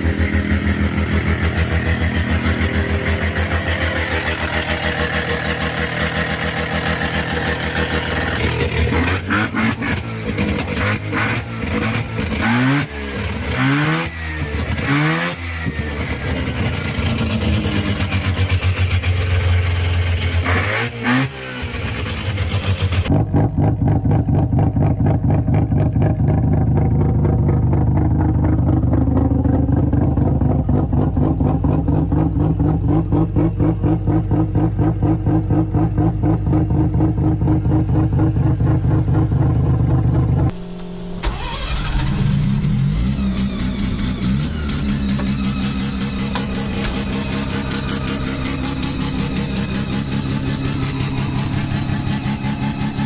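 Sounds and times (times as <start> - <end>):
rotary engine idling and revving: 0.0 - 53.0.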